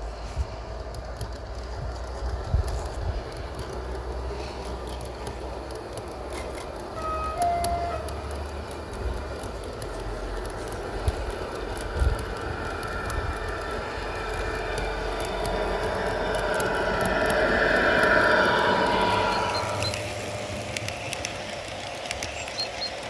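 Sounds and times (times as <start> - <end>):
model train running: 0.0 - 23.0
light clicking from rails: 0.2 - 23.0.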